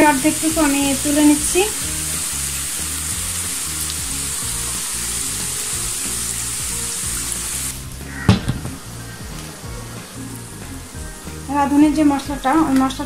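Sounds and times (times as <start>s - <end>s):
onions sizzling in oil: 0.0s - 13.0s
soft background music: 0.0s - 13.0s.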